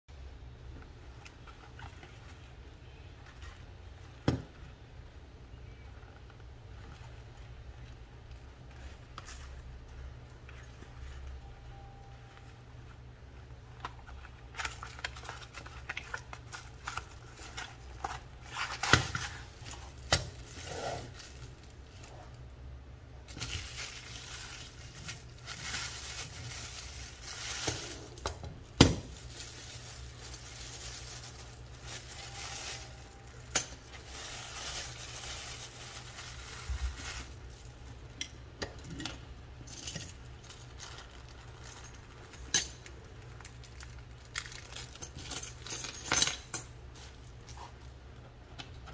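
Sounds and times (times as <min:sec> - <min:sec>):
cardboard and plastic rustling: 0:00.7 - 0:38.2, 0:39.9 - 0:45.7.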